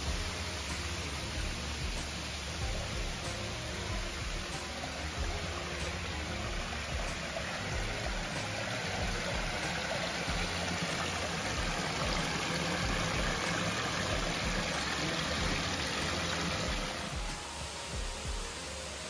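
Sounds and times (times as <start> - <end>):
water splashing over rocks: 0.0 - 19.0.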